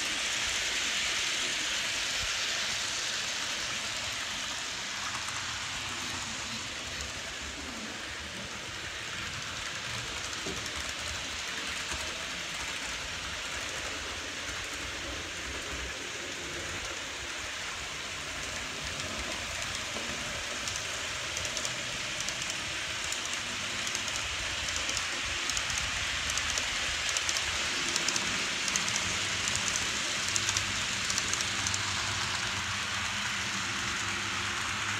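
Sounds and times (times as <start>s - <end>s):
model train wheels rolling: 0.0s - 34.9s
wheels clicking over rail joints: 0.0s - 34.9s.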